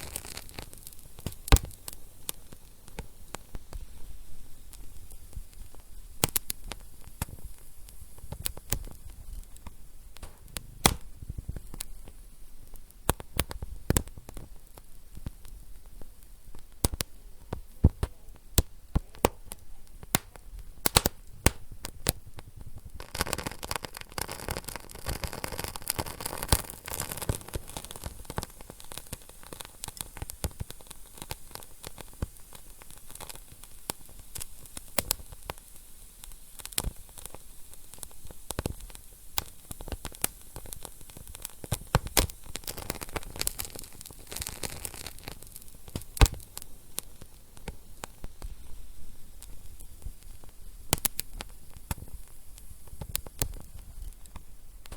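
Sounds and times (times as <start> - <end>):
wood fire hissing and crackling: 0.0 - 54.9.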